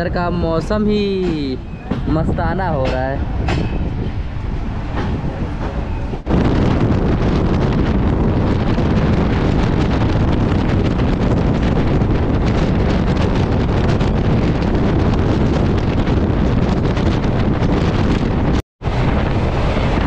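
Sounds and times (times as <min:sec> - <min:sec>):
train running noise: 0:00.0 - 0:20.0
wind buffeting microphone: 0:00.0 - 0:20.0.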